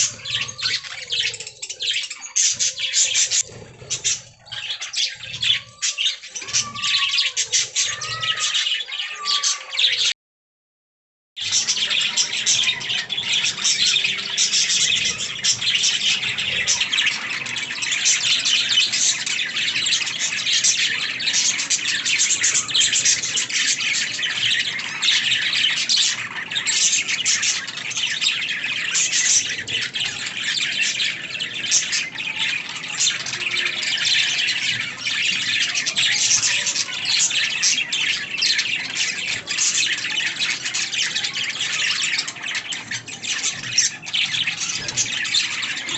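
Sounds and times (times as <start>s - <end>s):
budgerigars chirping and chattering: 0.0s - 10.1s, 11.4s - 45.9s.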